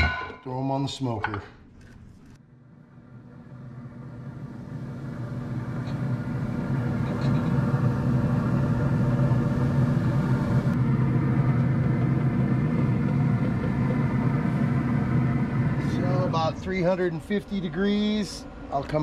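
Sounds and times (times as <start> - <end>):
low mechanical hum: 1.0 - 19.0.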